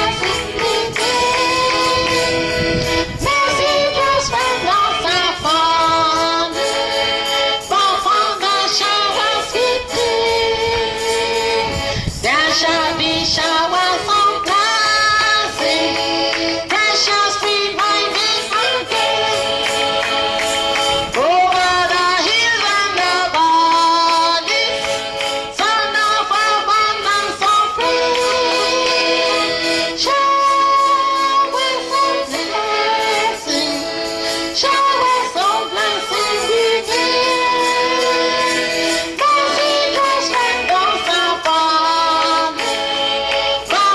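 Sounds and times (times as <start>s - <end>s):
accordion playing a slow hymn: 0.0s - 43.9s.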